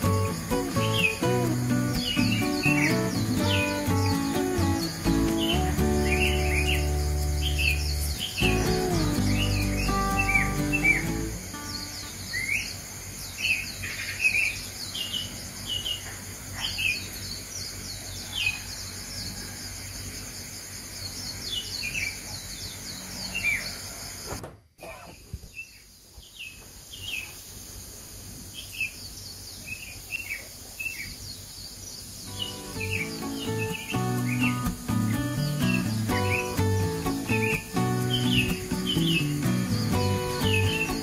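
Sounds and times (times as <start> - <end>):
steady high hiss: 0.0 - 17.9, 25.8 - 41.0
small birds chirping: 0.0 - 41.0.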